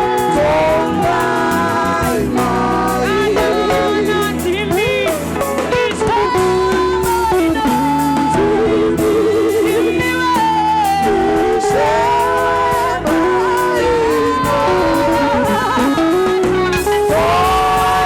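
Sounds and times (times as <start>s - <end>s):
guitar: 0.0s - 18.0s
steady bass: 0.0s - 18.0s.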